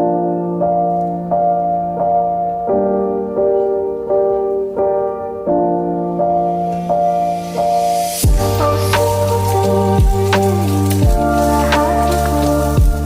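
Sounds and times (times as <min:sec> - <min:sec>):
gentle piano-like keyboard tune: 0:00.0 - 0:13.0.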